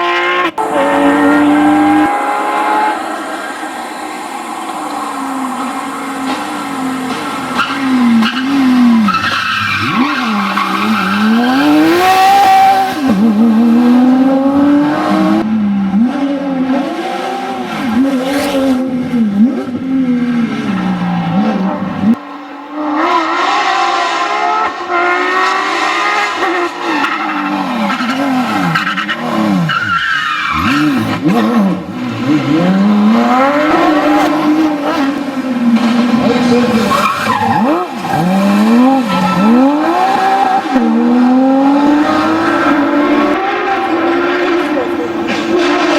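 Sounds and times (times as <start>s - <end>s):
car engine at full throttle: 0.0s - 45.9s.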